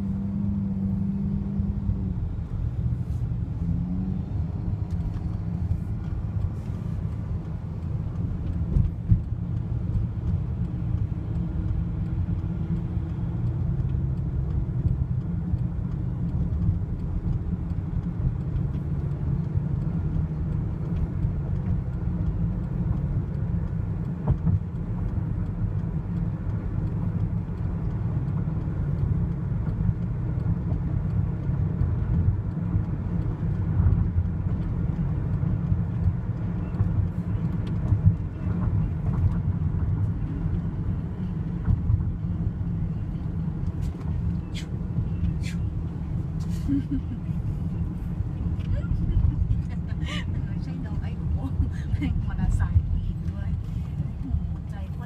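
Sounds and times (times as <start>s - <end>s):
car interior road rumble: 0.0s - 55.0s.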